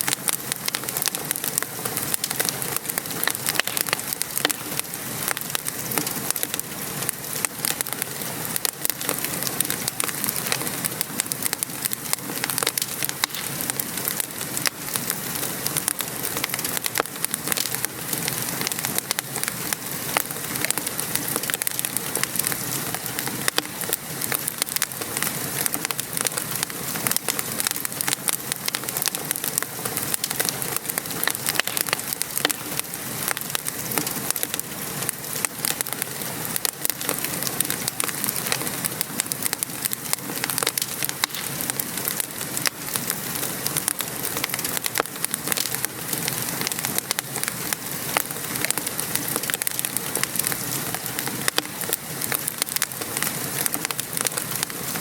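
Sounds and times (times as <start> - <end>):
rain pattering: 0.0 - 55.0
wood fire crackling: 0.0 - 55.0.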